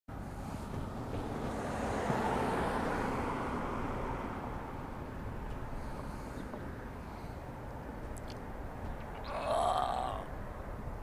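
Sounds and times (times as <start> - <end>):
traffic rumble: 0.1 - 11.0.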